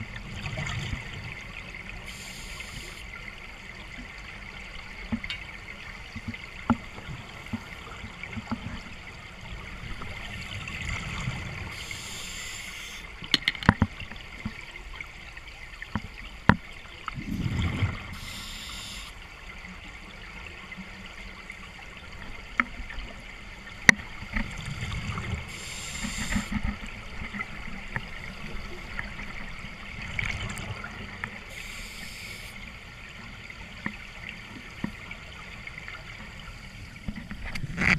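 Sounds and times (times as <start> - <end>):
water trickling and dripping: 0.0 - 37.9.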